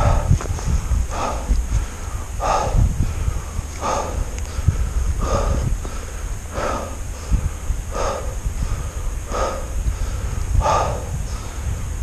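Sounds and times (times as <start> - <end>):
person breathing hard: 0.0 - 12.0
wind rumble on microphone: 0.0 - 12.0.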